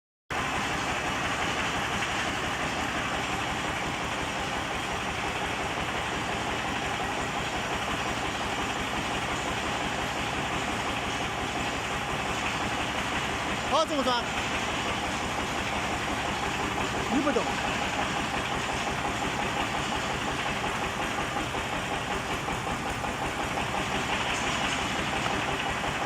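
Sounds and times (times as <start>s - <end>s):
drilling rig running: 0.3s - 26.0s.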